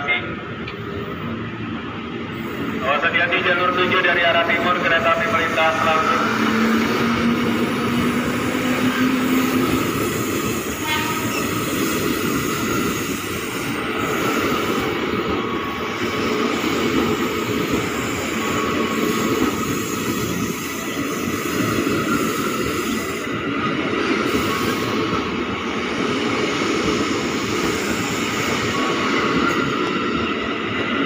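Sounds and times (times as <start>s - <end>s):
train wheels rumbling and clattering: 0.0s - 31.0s.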